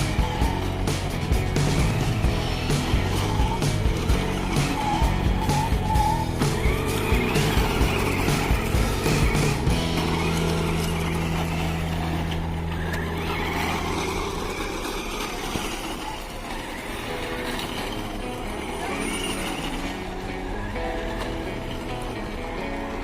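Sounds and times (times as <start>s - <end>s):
car engine drone: 0.0s - 23.0s
rough engine rumble: 0.0s - 23.0s.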